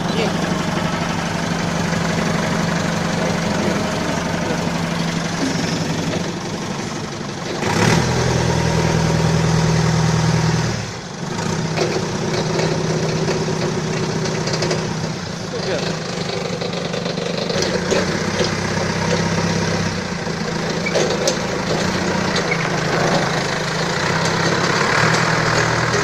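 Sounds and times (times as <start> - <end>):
forklift diesel engine running: 0.0 - 26.0.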